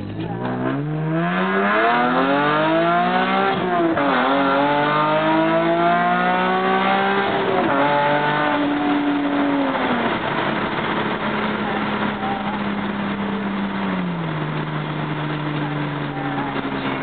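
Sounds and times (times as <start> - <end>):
raspy car exhaust accelerating: 0.0 - 17.0.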